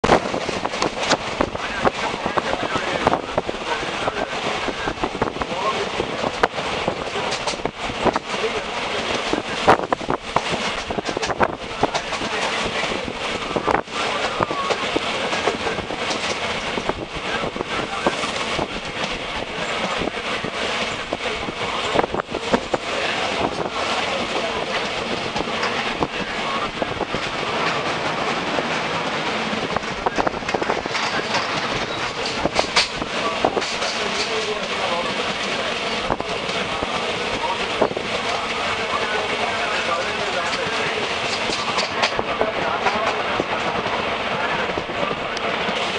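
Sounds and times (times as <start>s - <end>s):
train rumble and air rush: 0.0s - 45.9s.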